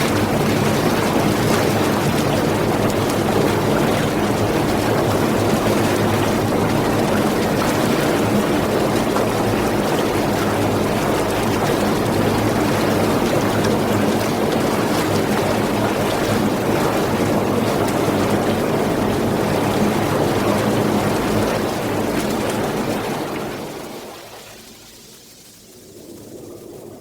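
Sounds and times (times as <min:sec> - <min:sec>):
jacuzzi jets bubbling: 0:00.0 - 0:27.0.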